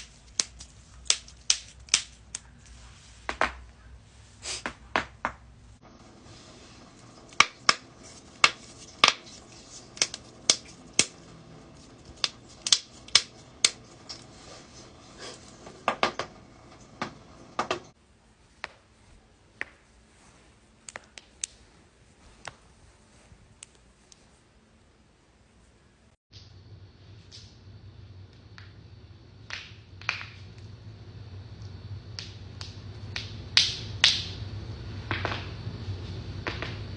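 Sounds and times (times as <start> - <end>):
low background hum: 0.0 - 36.9.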